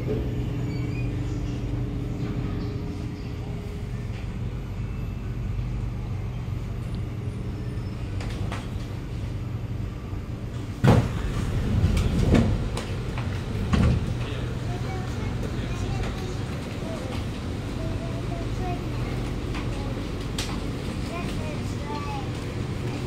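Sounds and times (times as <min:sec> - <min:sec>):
metro train droning: 0:00.0 - 0:23.0.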